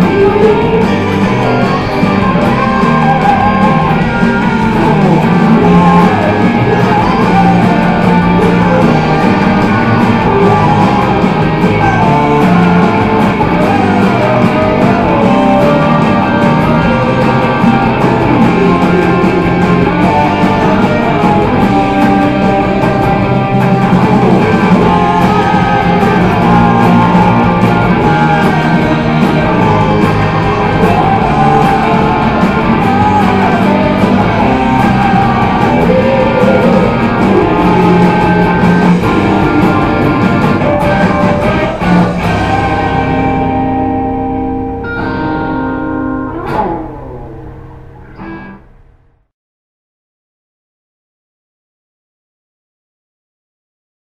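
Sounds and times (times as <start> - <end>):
rock band with guitars: 0.0 - 49.2.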